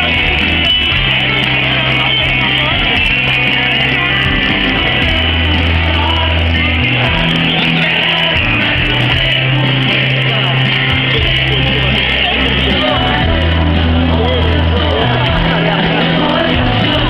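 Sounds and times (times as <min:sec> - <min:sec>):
live pop-rock band playing: 0:00.0 - 0:17.0
person singing: 0:00.0 - 0:17.0.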